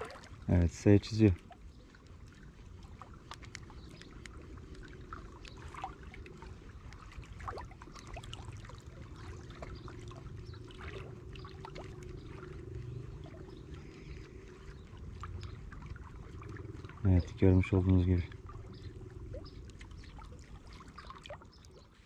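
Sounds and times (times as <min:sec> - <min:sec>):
low steady rumble: 0:00.0 - 0:22.0
small splashes and ticks: 0:00.0 - 0:22.0
water lapping and trickling: 0:00.0 - 0:22.0.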